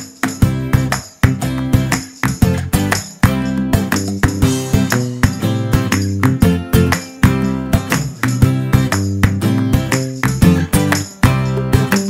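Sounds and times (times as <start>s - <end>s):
instrumental music with pitched beat: 0.0s - 12.0s.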